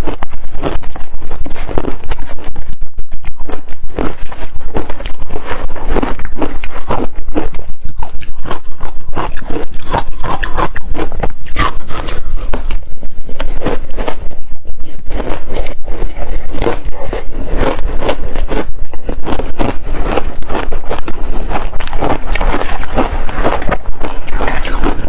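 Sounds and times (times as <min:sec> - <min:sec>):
ice crunching while chewed: 0:00.0 - 0:02.5, 0:03.2 - 0:25.0.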